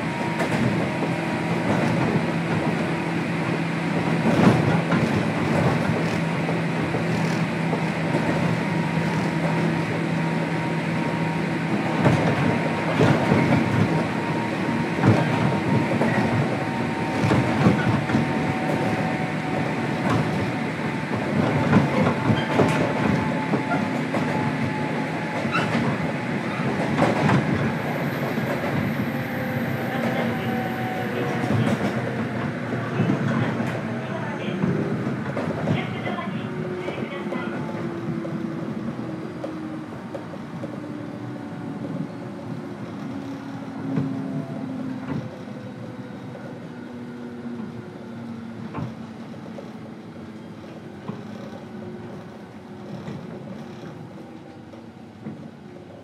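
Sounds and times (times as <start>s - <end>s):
electric train rumbling on track: 0.0s - 56.0s.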